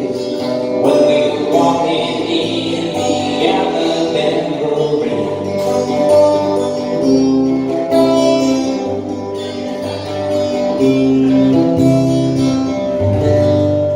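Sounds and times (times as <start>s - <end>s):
acoustic guitar playing chords: 0.0s - 13.9s.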